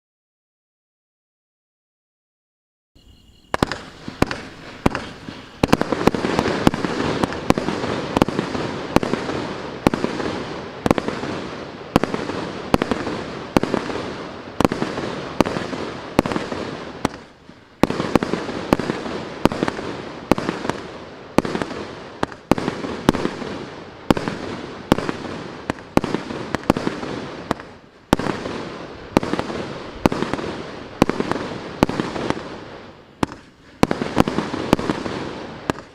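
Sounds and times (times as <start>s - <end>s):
fireworks banging: 3.0s - 35.9s.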